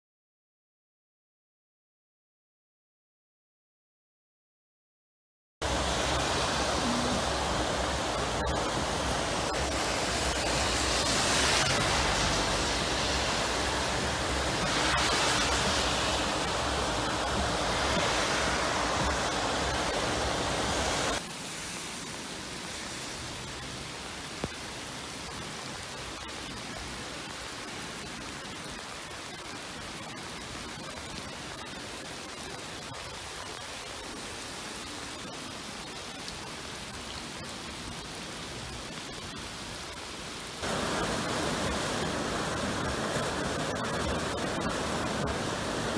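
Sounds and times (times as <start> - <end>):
floodwater rushing: 5.6 - 45.9
swollen stream flowing: 5.6 - 45.9.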